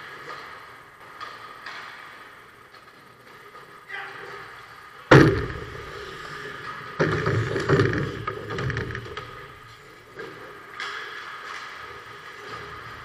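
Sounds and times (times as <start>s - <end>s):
skate blades scraping ice: 0.0s - 13.0s.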